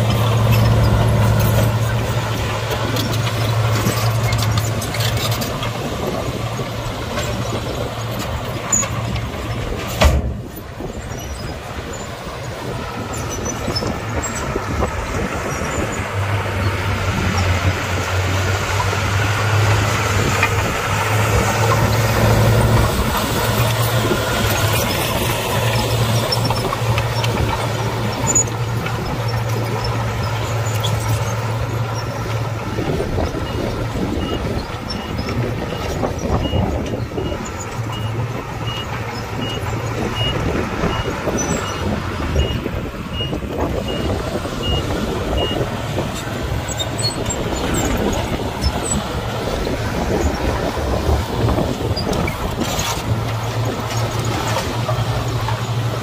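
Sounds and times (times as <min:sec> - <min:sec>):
heavy diesel engine drone: 0:00.0 - 0:56.0.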